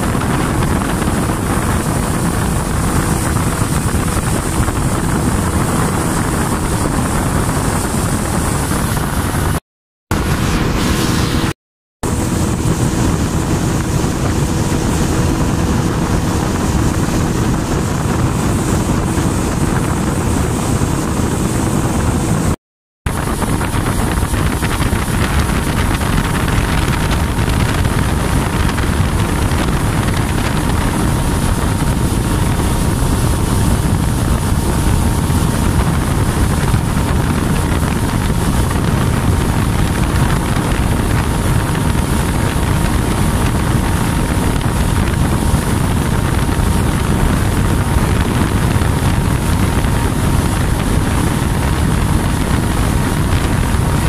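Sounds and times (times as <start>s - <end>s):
boat engine drone: 0.0s - 54.0s
wind noise on microphone: 0.0s - 54.0s.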